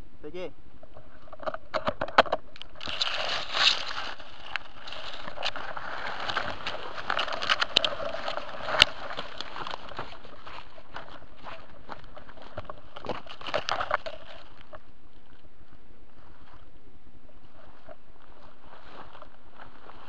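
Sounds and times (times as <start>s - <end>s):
rustling: 0.8s - 16.7s, 17.3s - 20.0s.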